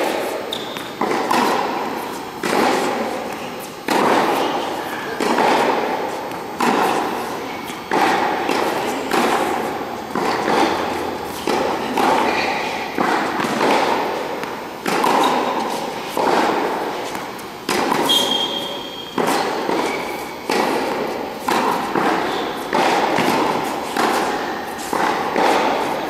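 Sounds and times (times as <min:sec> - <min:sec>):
tennis ball bouncing on court: 0:00.0 - 0:26.0
tennis ball struck by racket: 0:00.0 - 0:26.0.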